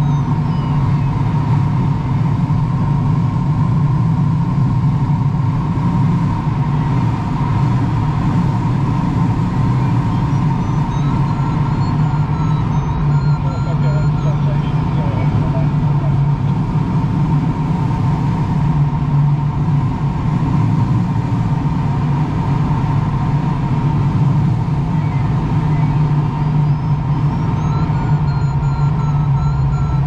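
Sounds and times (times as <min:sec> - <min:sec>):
low aircraft drone: 0:00.0 - 0:30.0.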